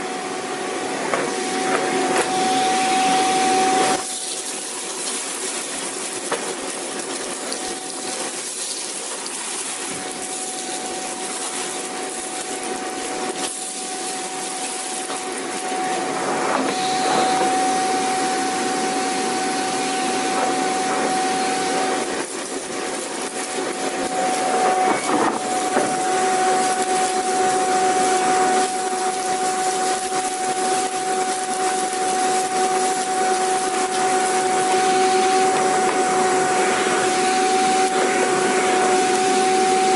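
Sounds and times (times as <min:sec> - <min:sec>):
lower whine: 0:00.0 - 0:04.1, 0:10.0 - 0:22.3, 0:23.6 - 0:39.9
vacuum cleaner running: 0:00.0 - 0:39.9.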